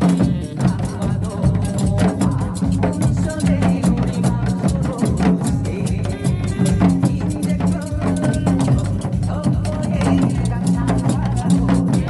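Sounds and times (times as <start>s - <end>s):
backing music with low bass: 0.0s - 12.0s
hourglass drum struck in rhythms: 0.0s - 12.0s.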